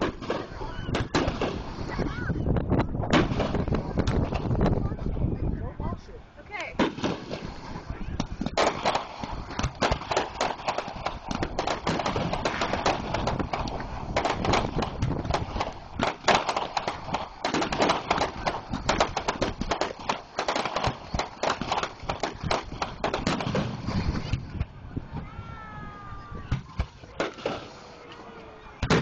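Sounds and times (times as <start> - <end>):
fireworks crackling: 0.0 - 29.0.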